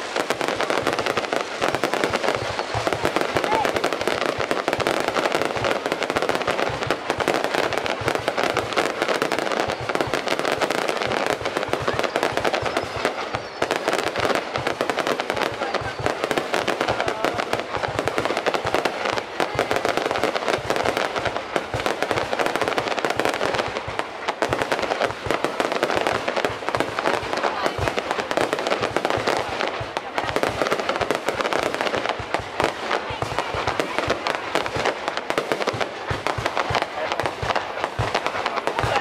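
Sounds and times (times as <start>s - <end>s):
fireworks banging and cracking: 0.0s - 39.0s.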